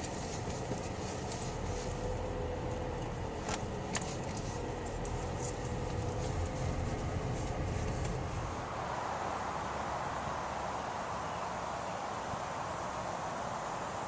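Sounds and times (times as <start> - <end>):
faint engine hum: 0.0 - 14.0
low road rumble: 0.0 - 14.0.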